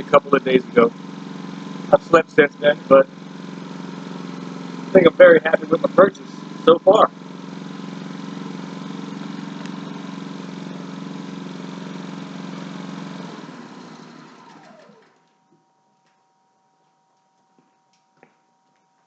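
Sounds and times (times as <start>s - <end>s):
generator running and winding down: 0.0s - 15.4s.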